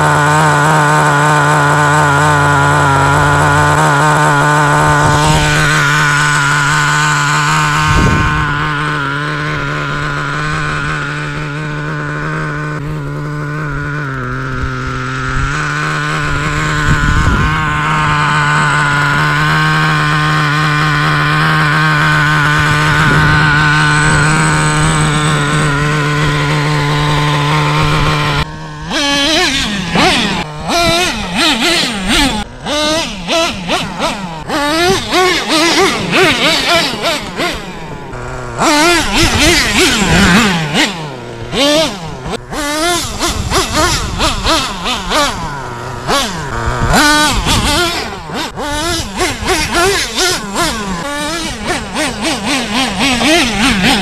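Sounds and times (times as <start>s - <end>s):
model engine idling and revving: 0.0s - 54.0s.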